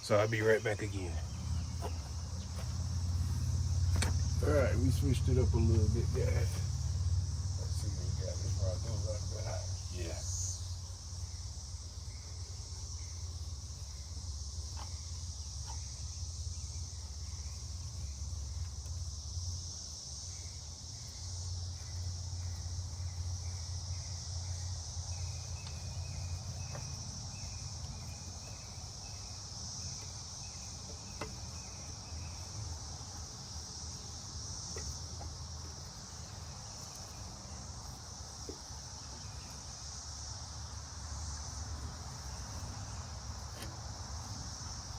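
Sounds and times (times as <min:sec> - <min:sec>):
crickets chorus: 0:00.0 - 0:44.9
low steady hum: 0:00.0 - 0:44.9.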